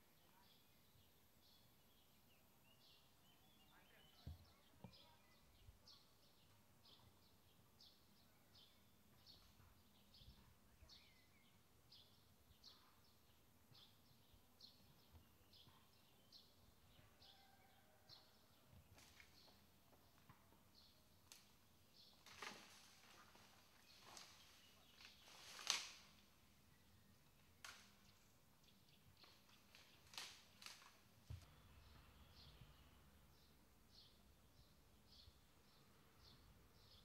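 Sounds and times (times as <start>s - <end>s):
bird chirping: 0.0s - 21.2s, 26.6s - 30.2s, 31.4s - 37.0s.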